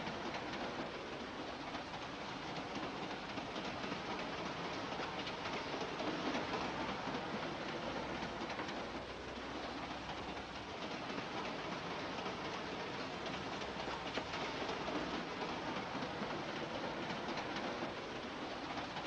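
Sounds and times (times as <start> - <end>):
train carriage rumbling and rattling: 0.0 - 19.0.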